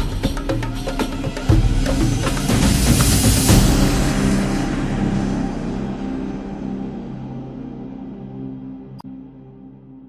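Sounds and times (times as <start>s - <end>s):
slow low sustained music: 0.0s - 10.0s.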